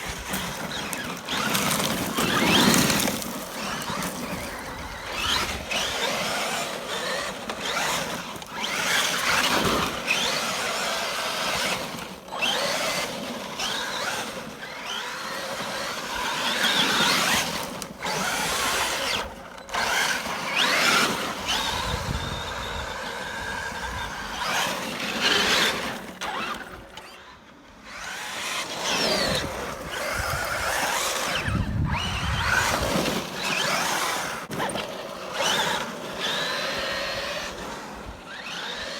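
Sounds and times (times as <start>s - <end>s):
electric motor whining: 0.0s - 38.9s.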